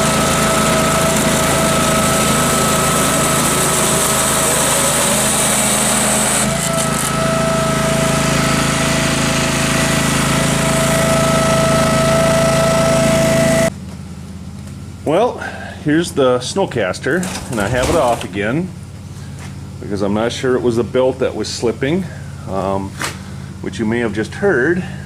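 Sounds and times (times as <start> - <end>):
garden tractor engine running: 0.0 - 25.0.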